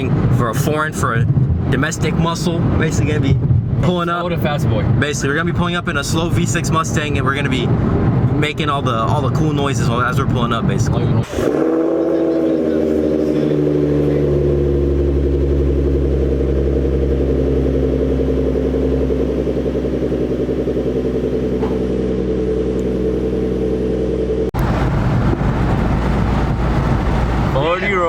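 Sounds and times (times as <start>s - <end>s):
car engine droning: 0.0s - 28.0s
road noise: 0.0s - 28.0s.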